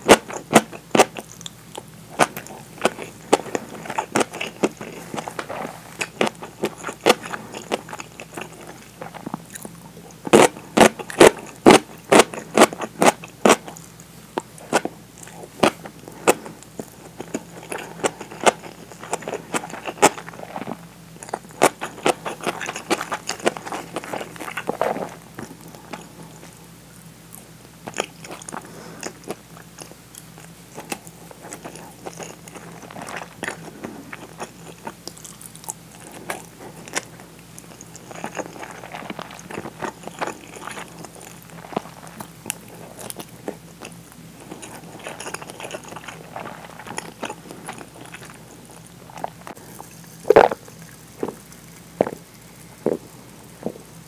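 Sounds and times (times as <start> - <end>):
chewing with wet mouth clicks: 0.0 - 26.6, 27.3 - 53.9.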